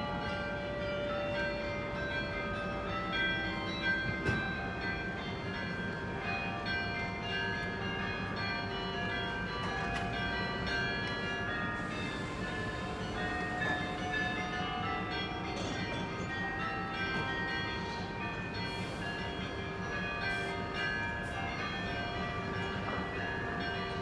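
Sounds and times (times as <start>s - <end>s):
carillon bells playing a tune: 0.0s - 24.0s.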